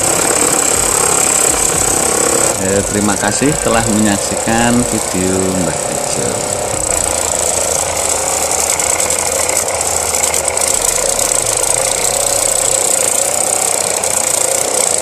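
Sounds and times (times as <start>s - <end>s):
electric grater scraping coconut: 0.0s - 15.0s.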